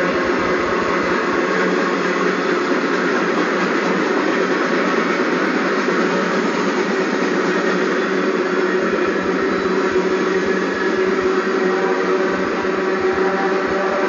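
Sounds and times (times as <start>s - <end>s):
freight train wheels rolling on rails: 0.0s - 14.0s.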